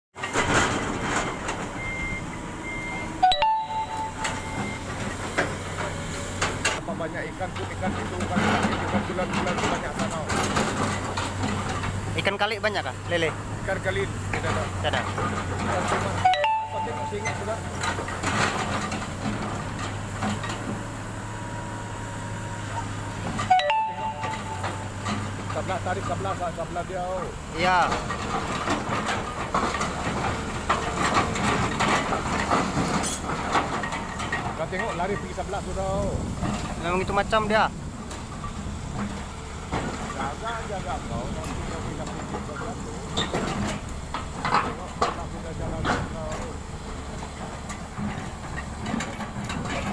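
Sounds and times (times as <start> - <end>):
excavator running: 0.2 - 49.9.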